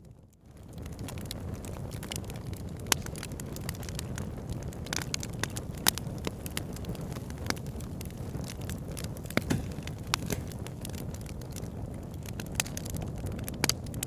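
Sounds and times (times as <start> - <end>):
fire crackling: 0.0 - 14.0
low rumble of flames: 0.0 - 14.0
sharp fire pops: 0.7 - 14.0.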